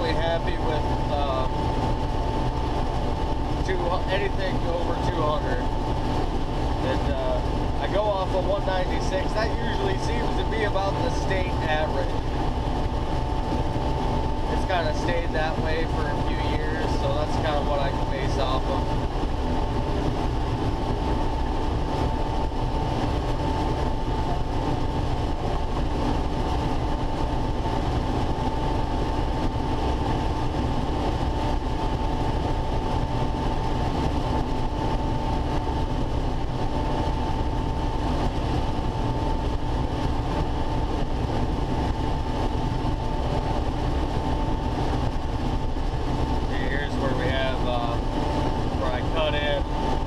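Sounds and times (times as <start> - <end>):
combine harvester machinery hum: 0.0 - 50.0
high-pitched whine: 0.0 - 50.0.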